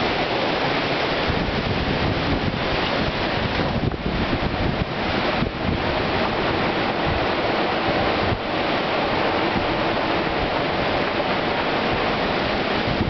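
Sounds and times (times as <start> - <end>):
strong wind through trees: 0.0 - 13.0
wind buffeting microphone: 0.0 - 13.0.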